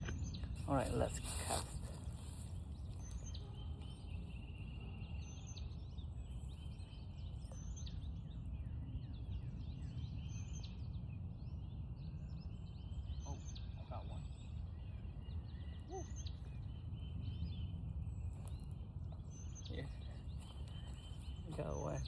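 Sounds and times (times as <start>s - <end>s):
bird singing chirping phrases: 0.0s - 22.0s
outdoor background rush: 0.0s - 22.0s.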